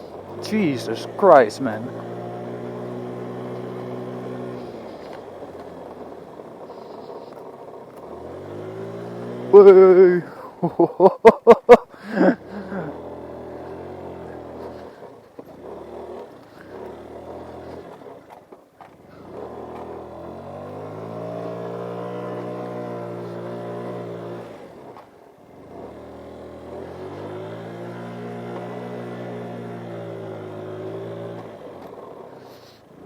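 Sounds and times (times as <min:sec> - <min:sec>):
scooter engine revving: 0:00.0 - 0:33.0.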